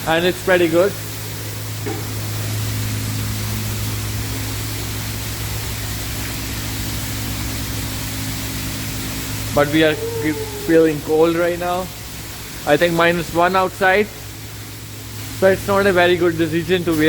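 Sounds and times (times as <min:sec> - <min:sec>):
constant low hum: 0:00.0 - 0:17.0
high-pressure water spray hissing: 0:00.0 - 0:17.0.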